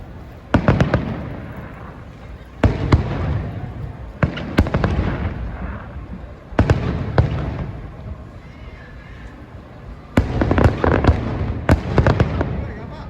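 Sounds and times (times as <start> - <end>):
fireworks booming: 0.0 - 8.5, 9.5 - 13.0
fireworks crackling and rumbling: 0.0 - 13.0.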